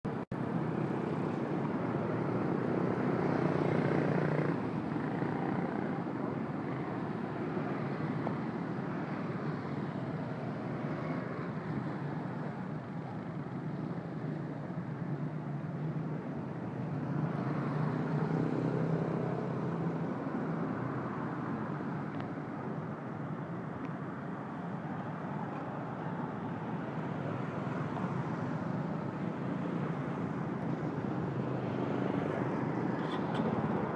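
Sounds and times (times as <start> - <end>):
road traffic rumble: 0.1 - 33.9
vehicles passing: 0.1 - 33.9.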